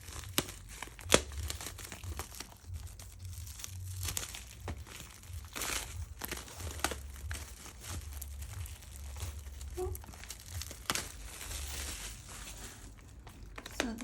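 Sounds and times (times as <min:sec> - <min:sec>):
plastic wrapper crinkling and tearing: 0:00.0 - 0:14.0.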